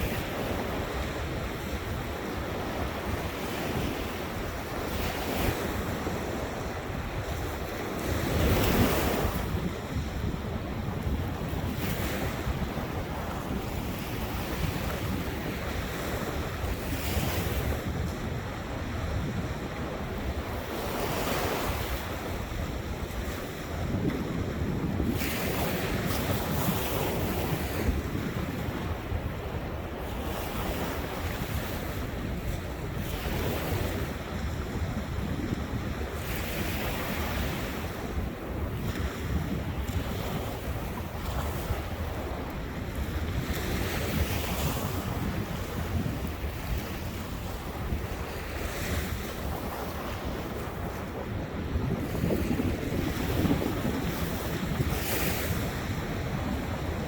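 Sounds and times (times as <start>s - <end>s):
ocean waves breaking on beach: 0.0s - 57.0s
wind rumbling on microphone: 0.0s - 57.0s.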